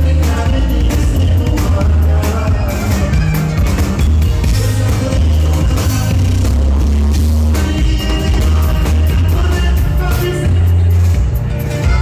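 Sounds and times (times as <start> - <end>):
button accordion: 0.0 - 12.0
guitars: 0.0 - 12.0
heavy bass line: 0.0 - 12.0.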